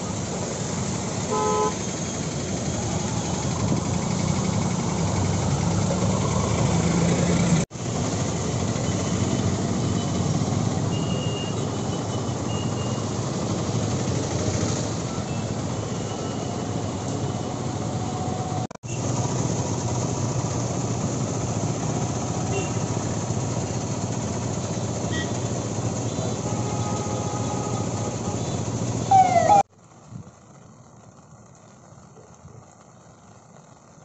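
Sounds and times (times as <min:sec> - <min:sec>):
vehicle engines: 0:00.0 - 0:30.5
rain hiss: 0:00.0 - 0:34.0
tyres on a wet road: 0:00.0 - 0:34.0.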